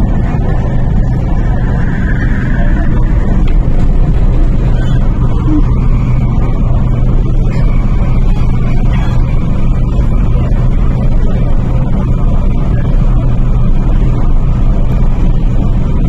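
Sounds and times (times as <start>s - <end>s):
faint low hum: 0.0s - 16.0s
train rumble: 0.0s - 16.0s.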